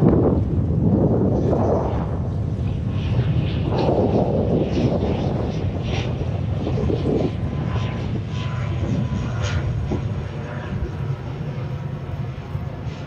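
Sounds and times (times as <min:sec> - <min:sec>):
airplane engines droning: 0:00.0 - 0:13.0.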